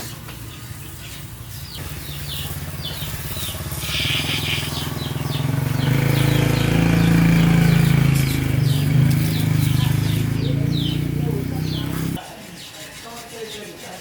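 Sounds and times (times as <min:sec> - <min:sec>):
birds chirping: 0:00.0 - 0:13.6
small engine running: 0:00.6 - 0:12.2.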